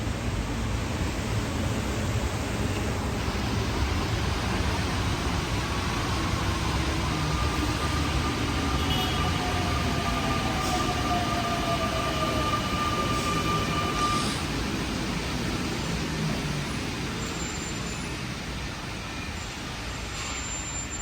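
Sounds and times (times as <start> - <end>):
tyres rumbling on wet track: 0.0 - 20.1.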